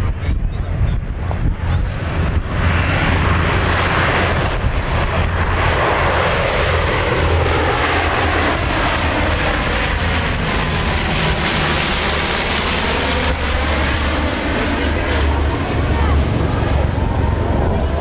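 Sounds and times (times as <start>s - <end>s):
turboprop airliner droning overhead: 0.0s - 18.0s.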